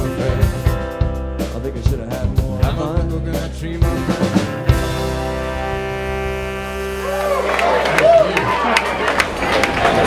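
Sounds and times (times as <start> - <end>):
loud band hit: 0.0 - 8.2
live band playing: 0.0 - 10.0.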